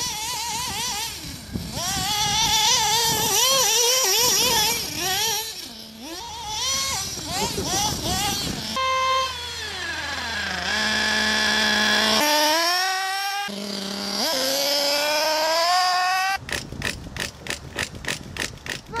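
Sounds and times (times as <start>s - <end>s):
toy car motor whining: 0.0s - 19.0s.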